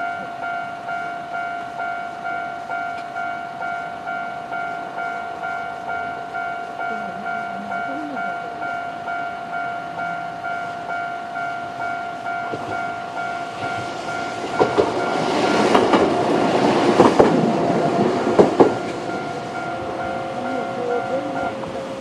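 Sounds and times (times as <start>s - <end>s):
level-crossing bell dinging: 0.0s - 22.0s
railcar rumbling: 0.0s - 22.0s.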